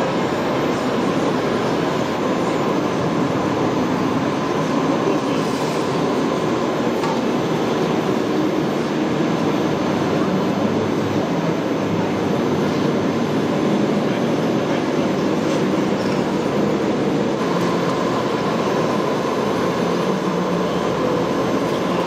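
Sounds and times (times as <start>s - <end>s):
steady background din: 0.0s - 22.0s.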